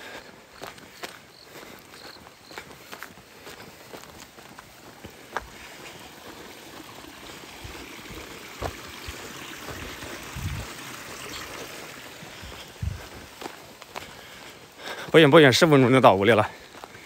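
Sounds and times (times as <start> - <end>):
footsteps on dirt road: 0.0 - 17.0.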